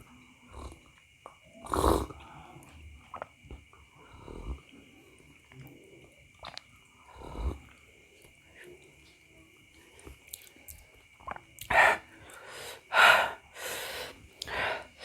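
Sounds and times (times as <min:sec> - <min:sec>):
soft chewing: 0:00.0 - 0:12.5.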